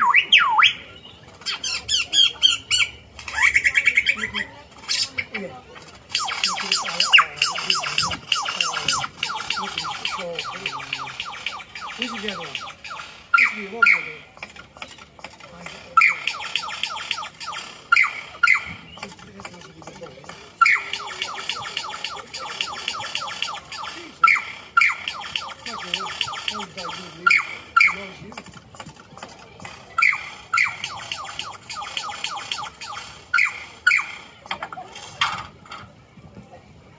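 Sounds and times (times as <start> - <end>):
lyrebird singing: 0.0 - 34.6.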